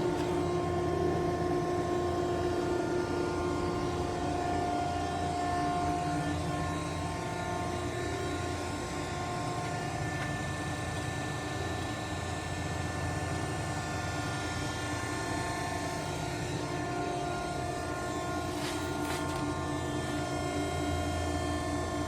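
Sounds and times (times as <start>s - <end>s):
grinder machine hum: 0.0s - 22.0s
steady whining tones: 0.0s - 22.0s.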